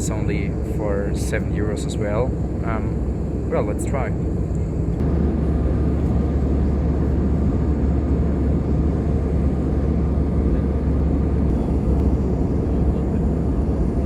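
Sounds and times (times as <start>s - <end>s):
airplane cabin airflow and engine: 0.0s - 14.0s
low hum: 0.0s - 14.0s.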